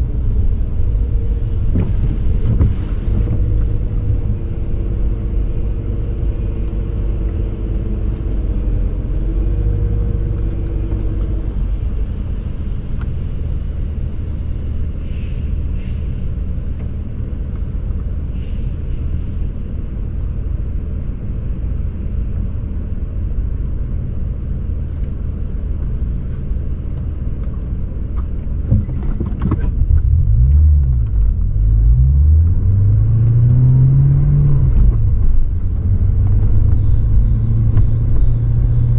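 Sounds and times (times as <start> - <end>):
car engine exhaust rumble: 0.0 - 38.9.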